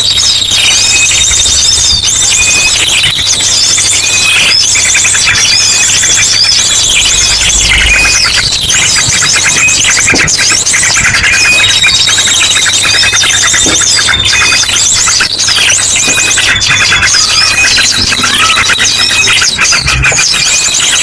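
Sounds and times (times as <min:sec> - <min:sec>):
drongo calls: 0:00.0 - 0:21.0
high bird whistle: 0:00.0 - 0:21.0
many small birds calling: 0:00.0 - 0:21.0.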